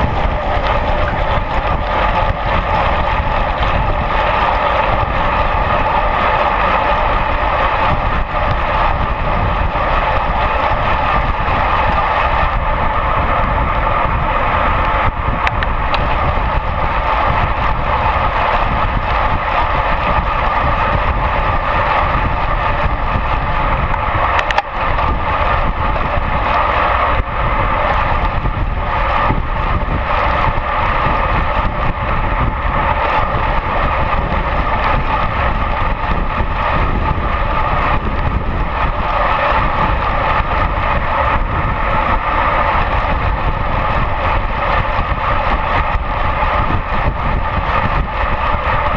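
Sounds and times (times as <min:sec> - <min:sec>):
low road rumble: 0:00.0 - 0:48.9
wind rushing over camera: 0:00.0 - 0:48.9.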